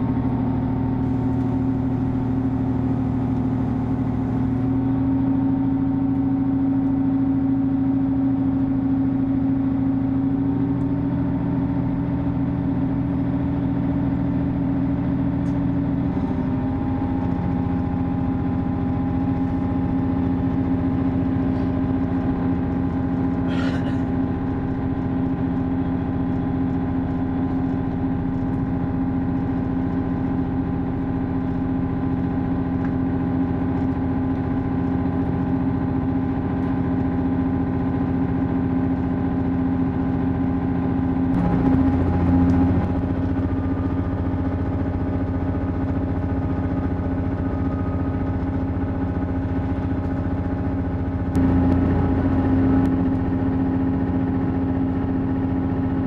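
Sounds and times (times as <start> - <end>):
train diesel engine running hard: 0.0 - 56.0.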